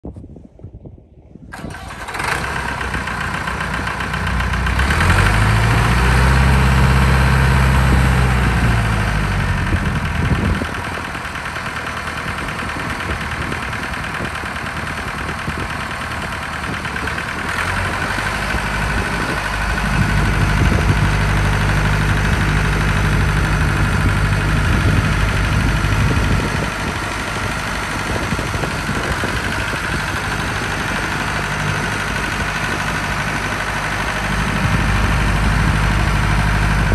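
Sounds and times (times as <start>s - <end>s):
tractor diesel engine running: 1.4s - 36.9s.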